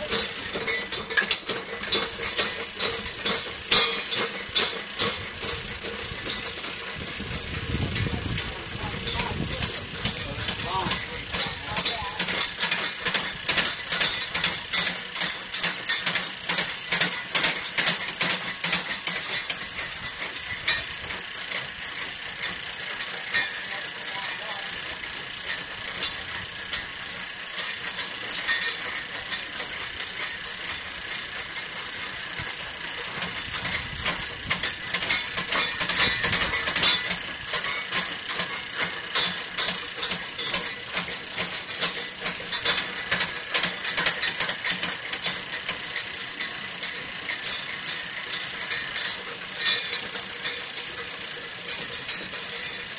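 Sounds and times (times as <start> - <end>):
drain cable rattling and clicking: 0.0 - 52.9.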